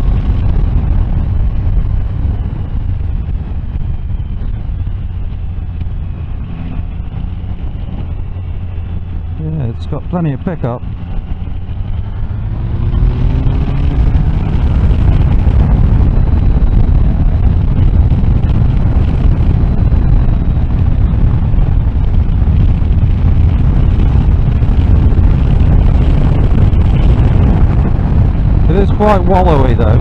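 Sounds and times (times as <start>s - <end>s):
motorcycle engine accelerating: 0.0s - 30.0s
wind roar on microphone: 0.0s - 30.0s.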